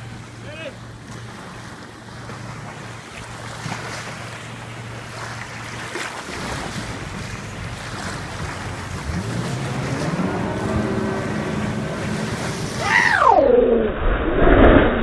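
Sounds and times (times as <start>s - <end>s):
jet ski engine revving: 0.0s - 13.3s
rushing water: 0.0s - 13.7s.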